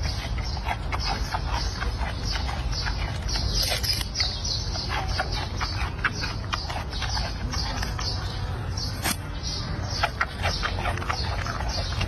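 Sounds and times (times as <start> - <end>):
panda crunching bamboo: 0.0 - 12.0.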